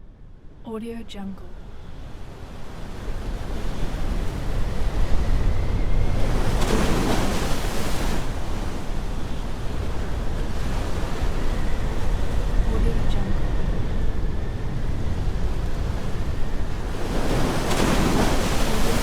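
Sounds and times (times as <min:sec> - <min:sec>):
storm wind rushing: 0:01.8 - 0:19.0.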